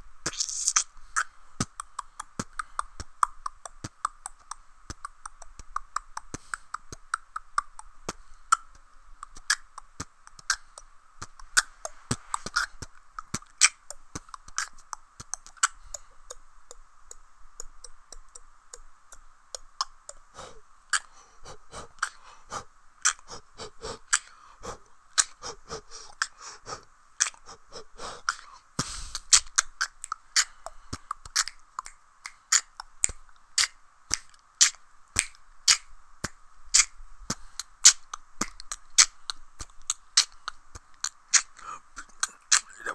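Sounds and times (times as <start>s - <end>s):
beatboxing: 0.0s - 42.9s.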